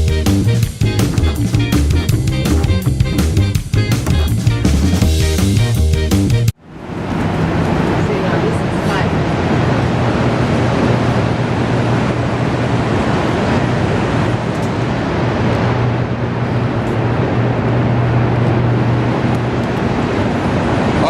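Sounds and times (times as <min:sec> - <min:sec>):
constant low hum: 0:00.0 - 0:05.8, 0:06.6 - 0:21.0.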